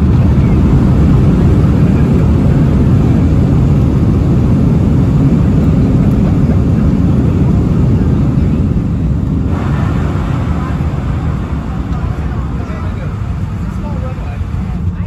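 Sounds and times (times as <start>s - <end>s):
aircraft cabin roar on landing: 0.0s - 15.0s.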